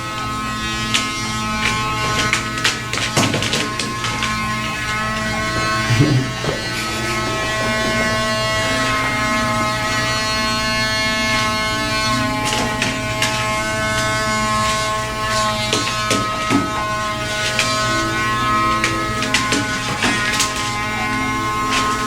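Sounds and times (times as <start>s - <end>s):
small motor whining: 0.0s - 22.0s.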